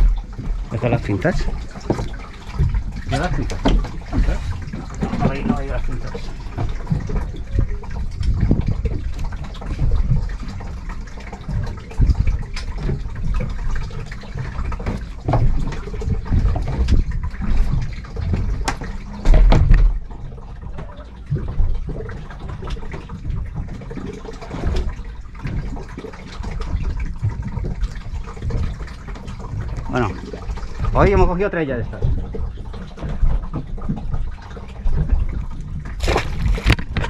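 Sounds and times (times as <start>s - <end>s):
water lapping against boat hull: 0.0s - 37.0s.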